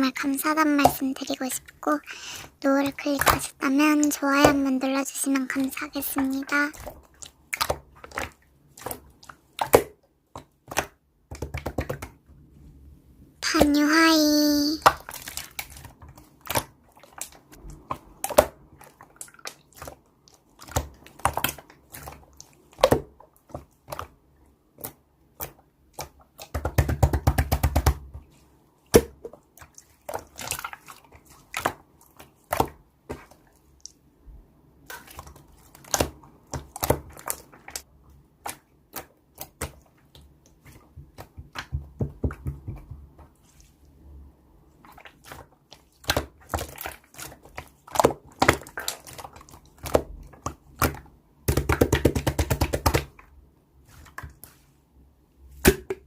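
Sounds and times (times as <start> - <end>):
slime squishing with sticky pops: 0.1 - 12.5, 13.4 - 34.1, 34.7 - 43.9, 44.7 - 54.6.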